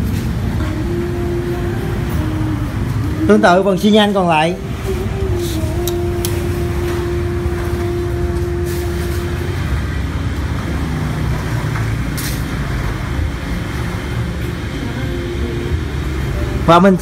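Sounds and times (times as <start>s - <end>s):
engine running low rumble: 0.0s - 17.0s.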